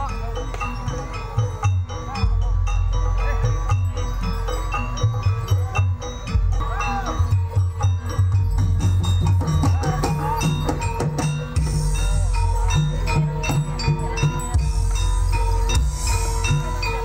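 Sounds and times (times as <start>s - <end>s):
drums: 0.0s - 17.0s.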